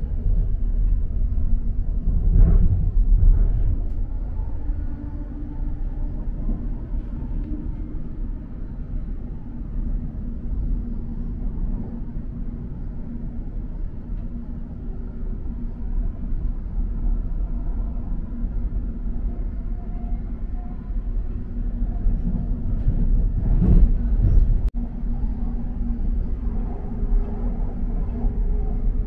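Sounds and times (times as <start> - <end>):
train wheels rumbling on track: 0.0 - 19.4, 21.0 - 29.0.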